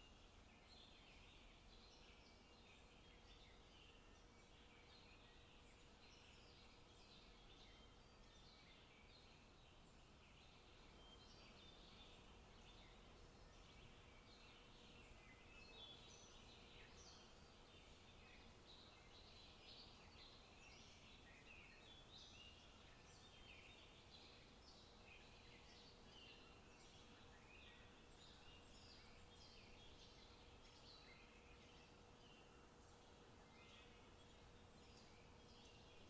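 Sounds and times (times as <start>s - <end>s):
quiet background hiss: 0.0s - 36.0s
small birds chirping and trilling: 0.0s - 36.0s.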